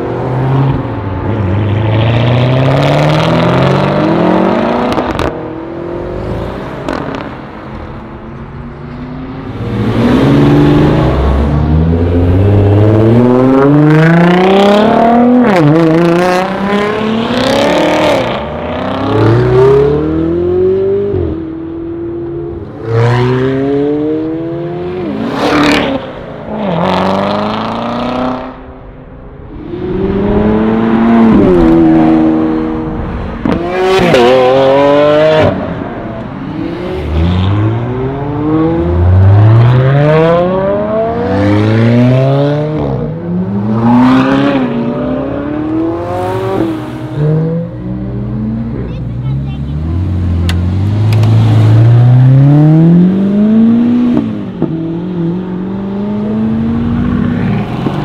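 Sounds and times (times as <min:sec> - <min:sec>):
sports car engines accelerating: 0:00.0 - 0:58.0.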